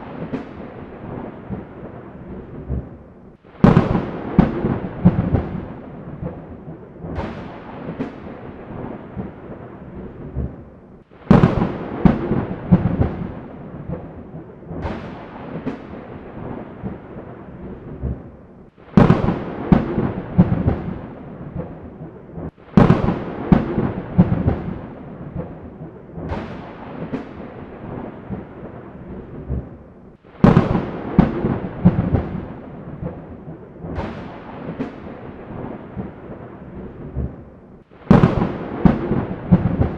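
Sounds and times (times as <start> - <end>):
thunder cracks and rolling rumble: 0.0 - 39.9.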